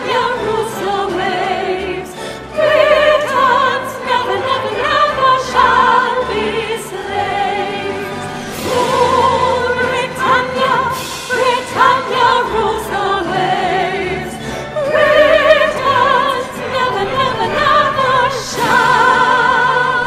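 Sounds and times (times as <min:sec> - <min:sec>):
women singing operatically: 0:00.0 - 0:20.0.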